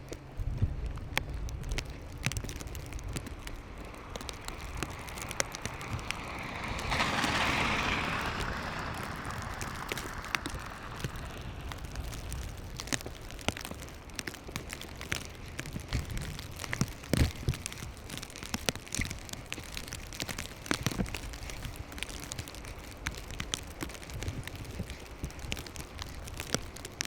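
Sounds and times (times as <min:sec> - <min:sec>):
low wind rumble: 0:00.0 - 0:27.0
snow ticking against microphone: 0:00.0 - 0:27.0.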